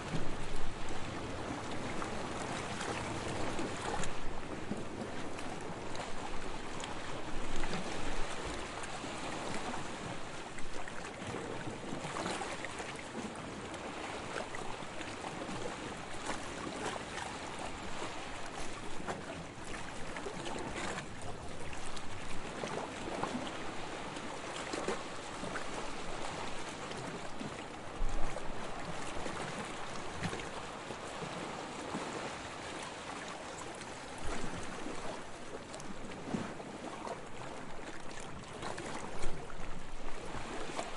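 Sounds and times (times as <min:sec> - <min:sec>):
small waves lapping on shore: 0:00.0 - 0:40.9
water splashes: 0:00.0 - 0:40.9.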